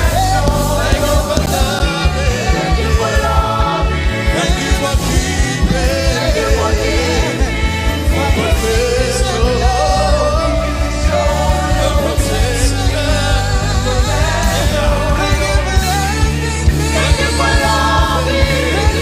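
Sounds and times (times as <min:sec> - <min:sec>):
gospel band with singing: 0:00.0 - 0:19.0
heavy bass: 0:00.0 - 0:19.0.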